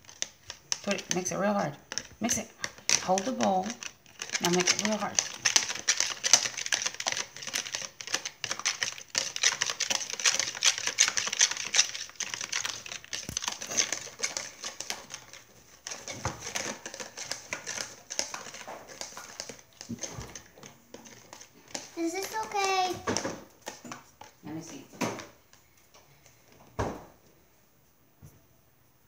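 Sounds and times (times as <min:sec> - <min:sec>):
whisk rattling against plastic bowl: 0:00.0 - 0:25.4.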